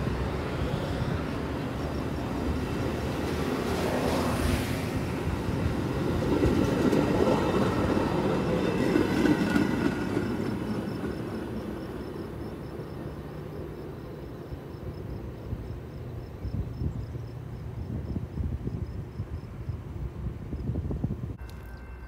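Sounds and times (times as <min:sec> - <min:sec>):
train rolling past on rails: 0:00.0 - 0:20.2.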